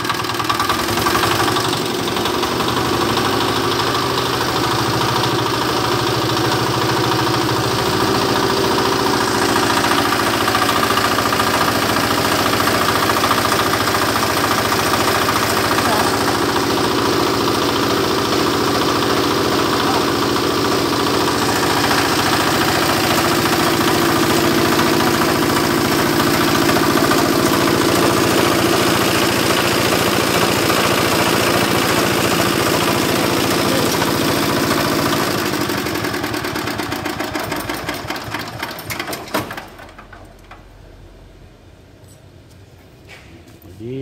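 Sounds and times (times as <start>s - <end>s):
diesel engine running: 0.0s - 38.9s
engine stopping clunk: 0.0s - 40.8s.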